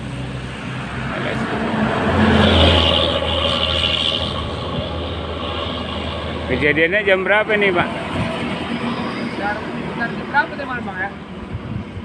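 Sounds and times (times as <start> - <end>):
vehicle passing on road: 0.0 - 12.0.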